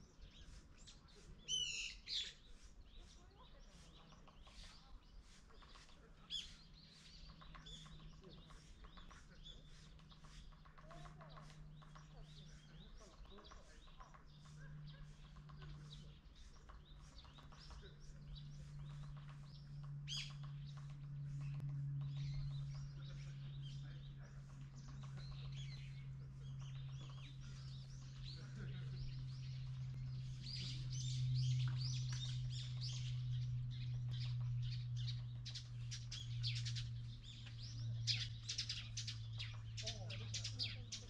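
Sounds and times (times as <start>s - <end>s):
small birds chirping: 0.0s - 41.0s
steady low hum: 0.0s - 41.0s.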